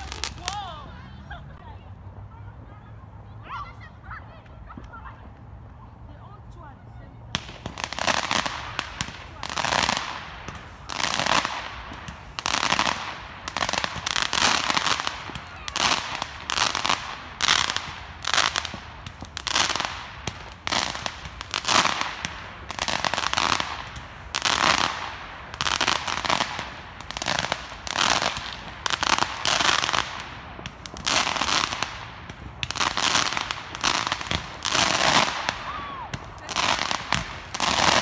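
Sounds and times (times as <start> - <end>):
fireworks crackling and popping: 0.0 - 6.1, 7.2 - 38.0.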